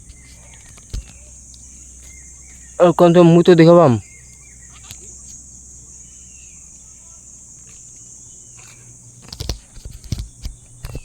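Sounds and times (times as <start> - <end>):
insect buzzing: 0.0 - 11.0.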